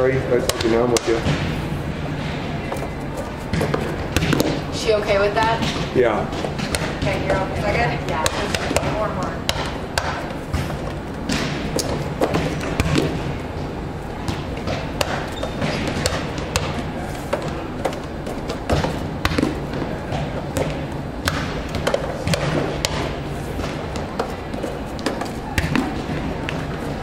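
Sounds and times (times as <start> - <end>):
volleyballs smacking and bouncing: 0.0 - 27.0.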